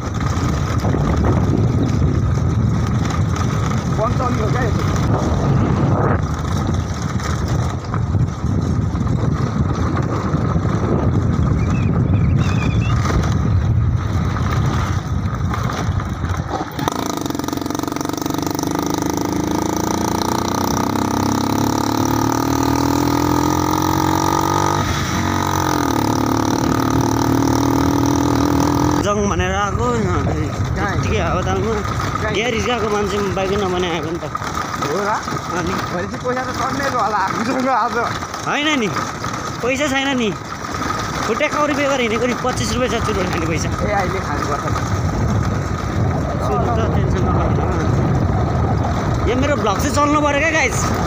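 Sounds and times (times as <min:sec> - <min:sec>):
motorcycle engine on dirt road: 0:00.0 - 0:51.0.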